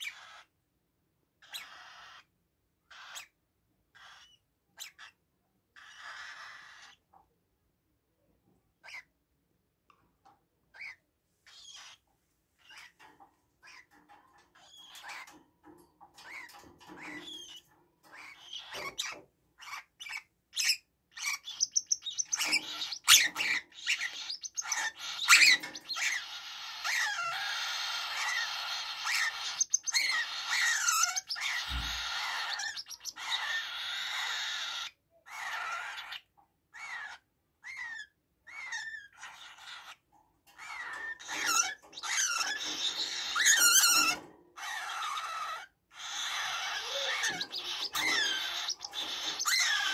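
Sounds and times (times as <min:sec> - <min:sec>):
parrots chirping and squawking: 0:00.0 - 0:00.6, 0:01.4 - 0:02.3, 0:02.9 - 0:07.1, 0:08.8 - 0:09.1, 0:10.7 - 0:49.9.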